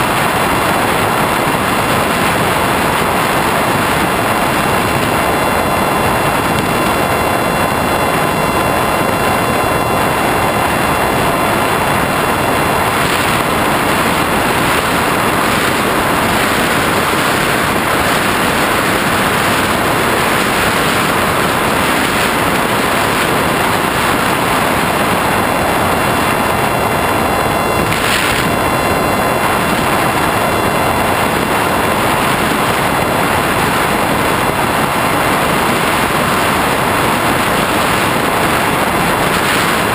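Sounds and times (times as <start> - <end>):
faint motor whine: 0.0 - 39.9
propeller and wind rush: 0.0 - 39.9.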